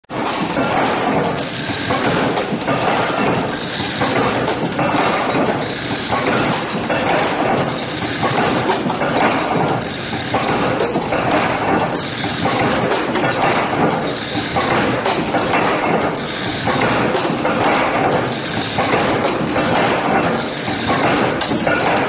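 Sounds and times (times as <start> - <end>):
wire-bending machine clatter: 0.1 - 22.0.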